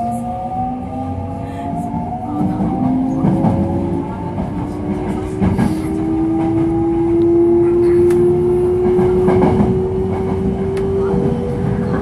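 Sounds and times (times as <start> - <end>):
wheels rumbling on track: 0.0 - 12.0.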